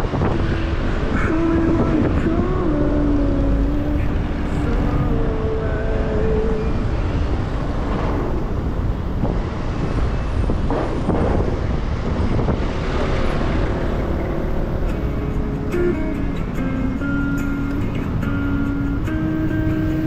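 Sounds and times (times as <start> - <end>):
wind rush over microphone: 0.0 - 17.3
passing traffic: 0.0 - 20.0.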